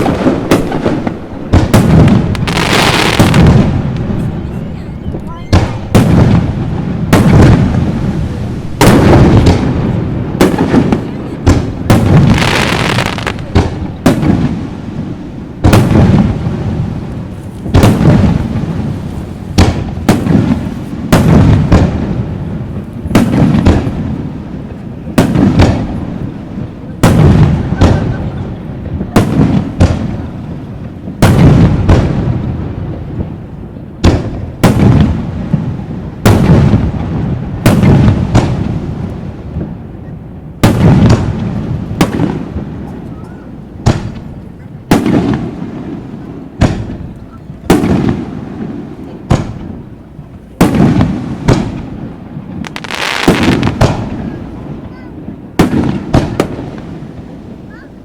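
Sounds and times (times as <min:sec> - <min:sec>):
echoing rumble of fireworks: 0:00.0 - 0:58.0
fireworks bursting: 0:00.0 - 0:58.0.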